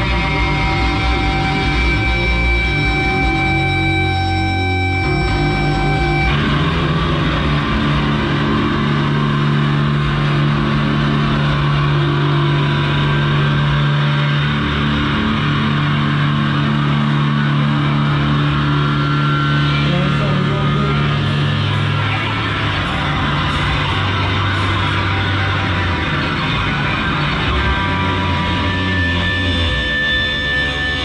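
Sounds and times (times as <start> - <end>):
distorted electric guitar drone: 0.0 - 31.0
ringing feedback tone: 0.0 - 31.0.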